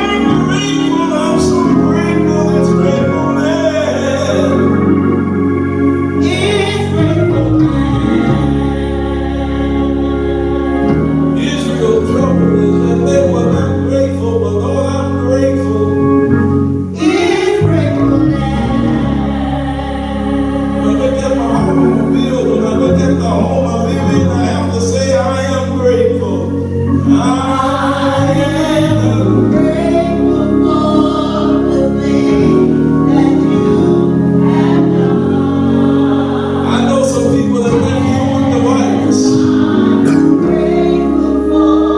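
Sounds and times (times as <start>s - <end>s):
gospel singing with accompaniment: 0.0s - 41.9s.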